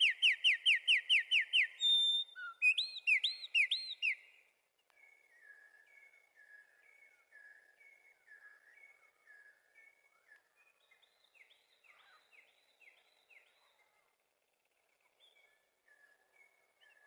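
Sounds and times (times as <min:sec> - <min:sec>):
wren song: 0:00.0 - 0:17.0.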